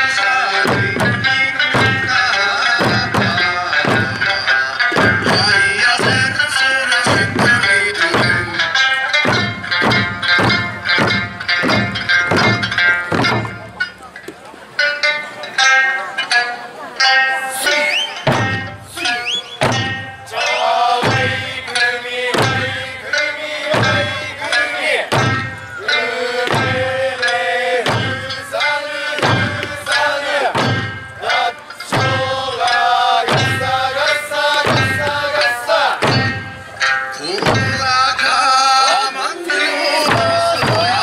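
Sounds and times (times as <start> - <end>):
person singing folk song: 0.0 - 9.5, 17.1 - 41.0
barrel drums beating: 0.0 - 15.1, 17.8 - 41.0
plucked string accompaniment: 0.0 - 41.0.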